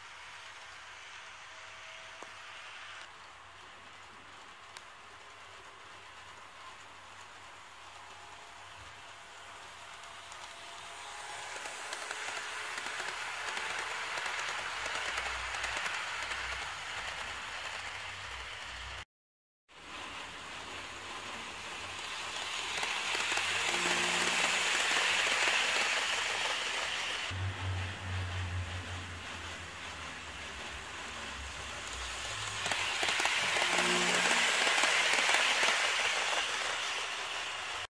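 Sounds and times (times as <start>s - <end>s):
model train wheels rushing and clicking: 0.0s - 19.0s, 19.8s - 37.9s.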